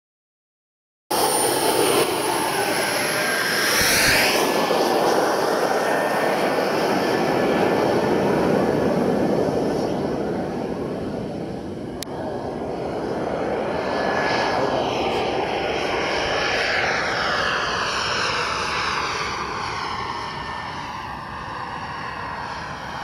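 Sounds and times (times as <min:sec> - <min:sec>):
jet turbine rushing with high whine: 0:01.1 - 0:23.0.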